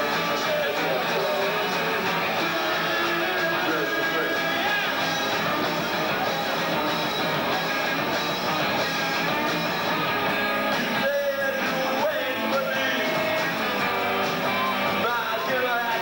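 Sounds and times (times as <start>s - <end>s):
drums: 0.0s - 16.0s
electric guitar: 0.0s - 16.0s.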